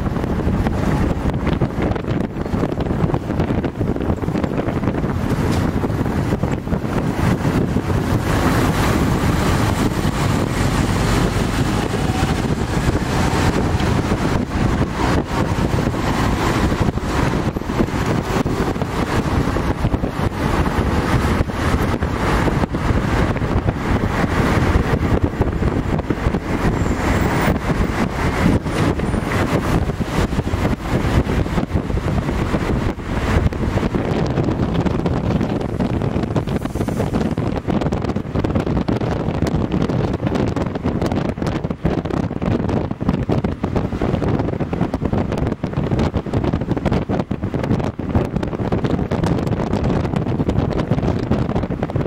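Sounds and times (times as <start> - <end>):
moving vehicle rumble: 0.0 - 52.0
wind buffeting microphone: 0.0 - 52.0.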